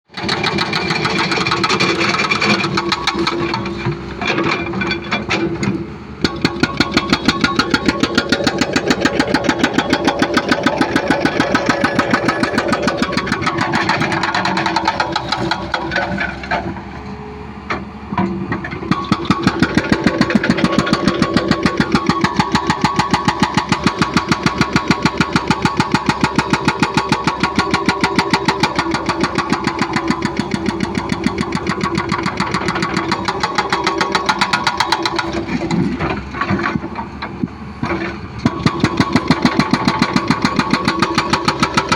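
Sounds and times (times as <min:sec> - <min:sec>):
diesel engine running: 0:00.1 - 0:41.9
hydraulic hammering on concrete: 0:00.2 - 0:16.8, 0:18.5 - 0:41.9.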